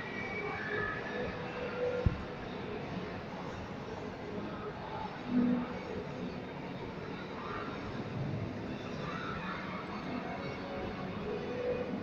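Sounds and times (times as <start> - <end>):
indoor mall ambience: 0.0 - 12.0.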